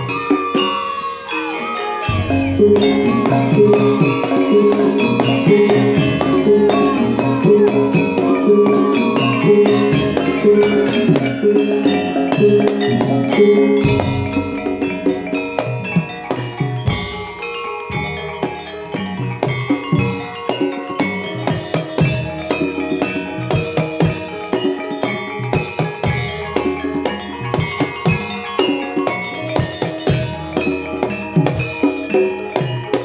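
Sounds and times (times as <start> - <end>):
gamelan music: 0.0 - 33.0.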